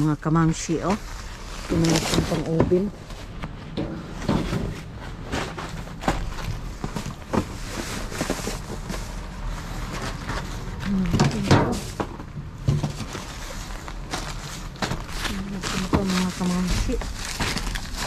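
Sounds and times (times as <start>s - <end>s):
plastic bags rustling: 0.6s - 18.0s.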